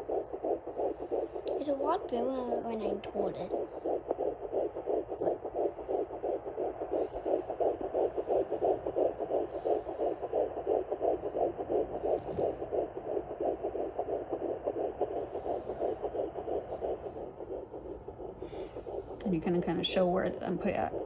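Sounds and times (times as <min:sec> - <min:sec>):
fast fetal heartbeat pulsing: 0:00.0 - 0:21.0.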